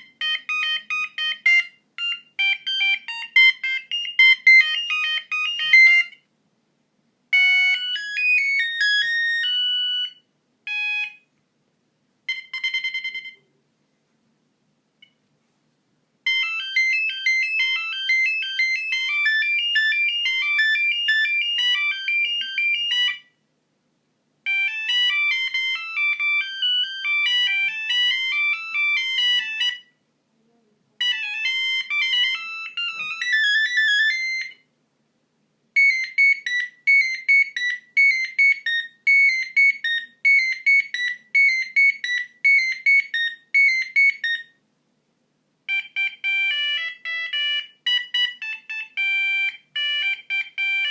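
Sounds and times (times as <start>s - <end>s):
monophonic phone ringtones: 0.0s - 6.2s, 7.3s - 11.2s, 12.3s - 13.5s, 16.3s - 23.3s, 24.5s - 29.9s, 31.0s - 34.6s, 35.8s - 44.6s, 45.7s - 50.9s.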